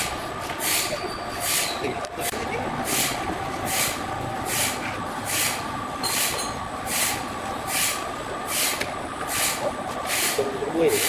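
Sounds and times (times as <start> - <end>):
sawmill machinery hum: 0.0 - 11.0.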